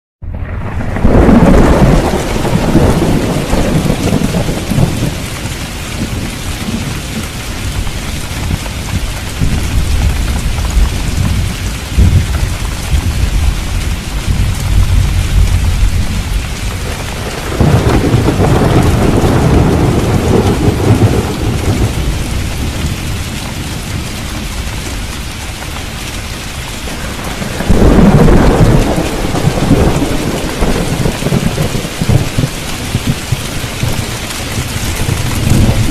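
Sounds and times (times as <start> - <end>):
rolling thunder: 0.2 - 25.6, 26.6 - 35.9
heavy rain: 0.2 - 35.9.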